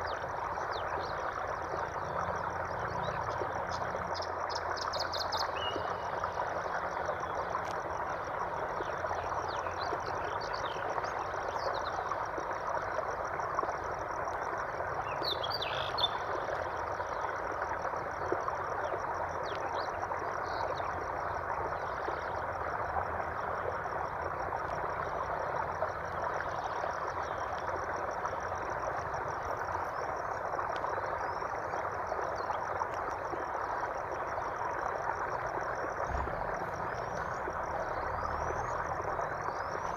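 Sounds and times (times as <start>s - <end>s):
dense chorus-like hiss: 0.0s - 39.9s.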